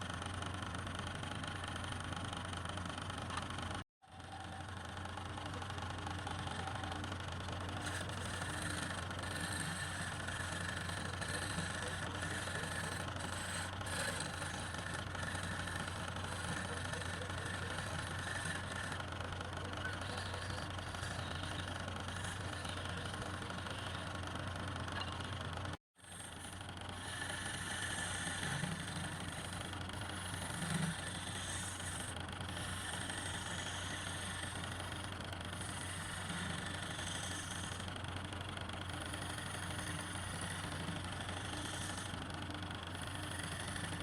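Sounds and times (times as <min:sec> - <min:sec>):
wood lathe humming: 0:00.0 - 0:44.0.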